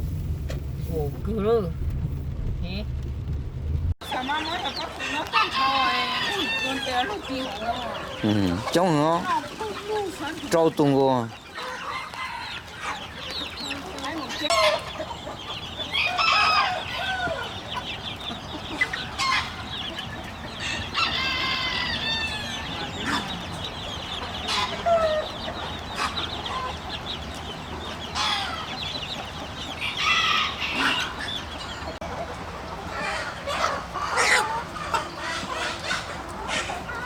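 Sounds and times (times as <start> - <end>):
chickens clucking and squawking: 4.0 - 37.0.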